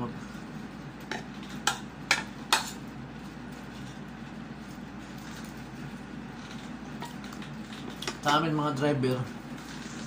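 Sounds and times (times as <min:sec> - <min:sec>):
low room hum with hiss: 0:00.0 - 0:10.0.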